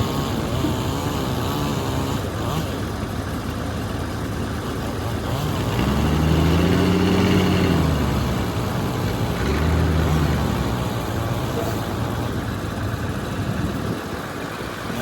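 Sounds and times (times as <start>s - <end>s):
diesel machinery engine hum: 0.0s - 15.0s.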